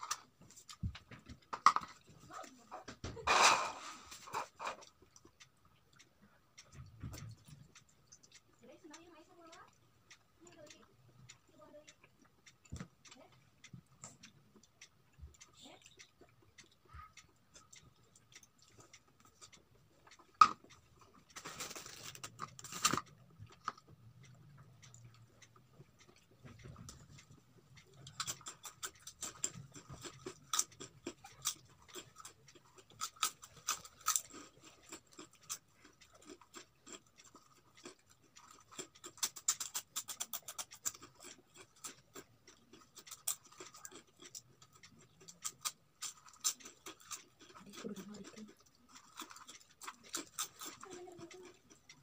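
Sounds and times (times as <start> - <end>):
wet chewing and mouth clicks: 0.0 - 52.0.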